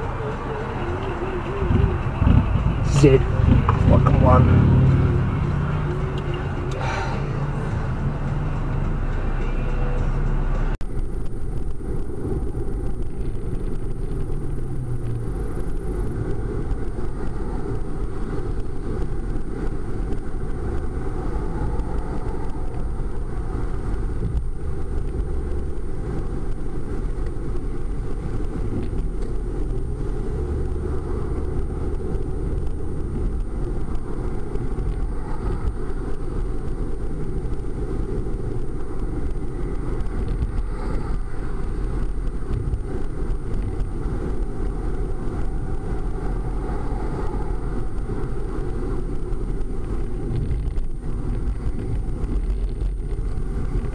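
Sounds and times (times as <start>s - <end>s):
car engine and tyre noise: 0.0s - 53.9s
street traffic noise: 0.0s - 53.9s.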